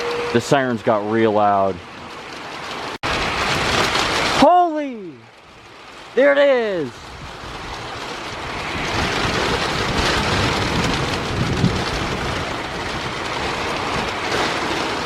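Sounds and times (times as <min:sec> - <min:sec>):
heavy rain in storm wind: 0:00.0 - 0:15.0.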